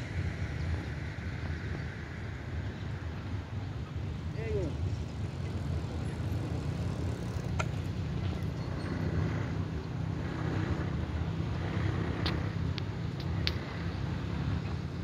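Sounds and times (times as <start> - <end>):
low rumble of background noise: 0.0 - 15.0.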